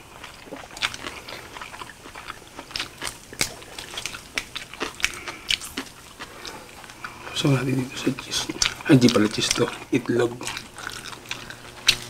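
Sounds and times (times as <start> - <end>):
people chewing and crunching: 0.0 - 12.0.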